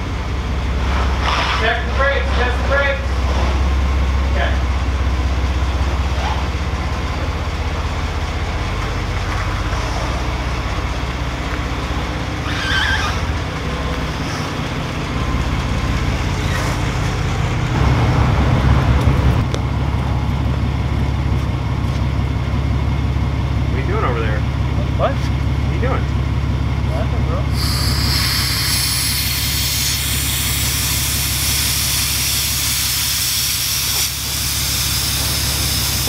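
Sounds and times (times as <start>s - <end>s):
pickup engine running at low speed: 0.0s - 36.0s.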